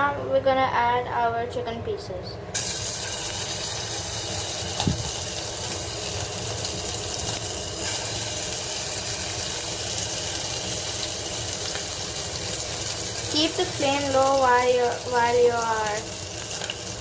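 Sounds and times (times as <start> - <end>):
chicken sizzling in hot oil: 2.6 - 17.0.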